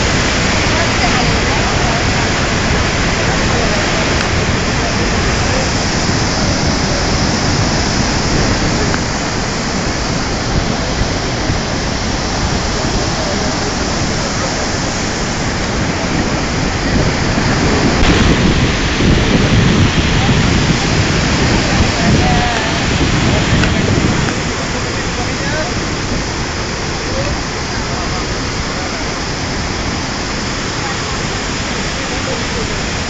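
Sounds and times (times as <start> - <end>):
roar of waterfall: 0.0 - 33.0.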